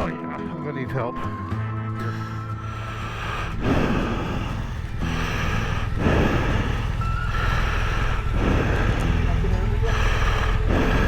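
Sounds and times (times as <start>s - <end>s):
motorcycle engine running: 2.0s - 11.0s.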